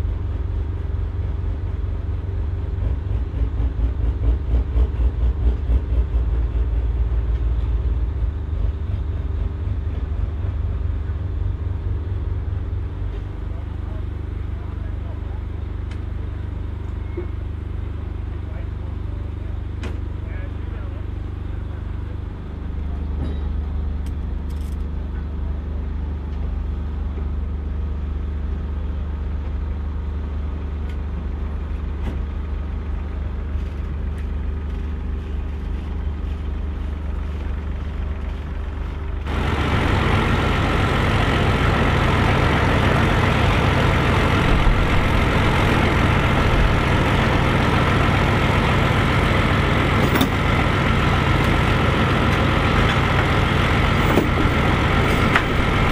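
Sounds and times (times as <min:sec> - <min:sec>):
tractor engines idling: 0:06.2 - 0:55.9.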